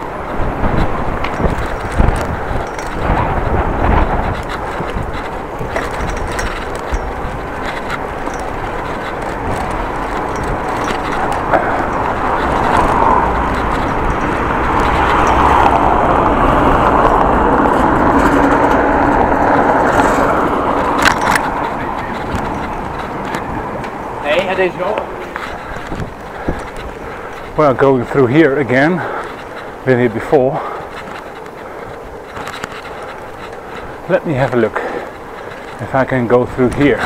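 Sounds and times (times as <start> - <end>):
low rumble of bicycle ride: 0.0 - 37.0
wind buffeting microphone: 0.0 - 37.0.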